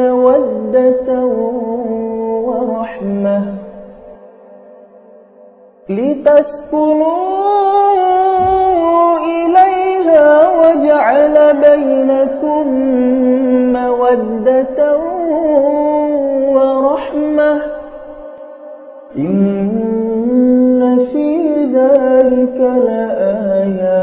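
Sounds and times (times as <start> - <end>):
person reciting melodically: 0.0 - 4.2, 5.9 - 24.0.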